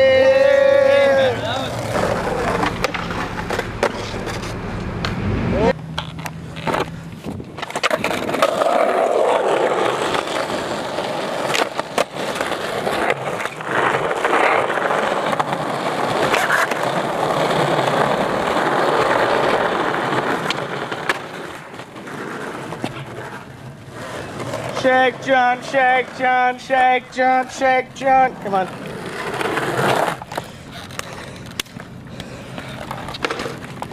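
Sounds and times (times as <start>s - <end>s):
skateboard clacks: 0.0s - 5.2s, 5.9s - 33.9s
skateboard wheels rolling on asphalt: 0.0s - 33.9s.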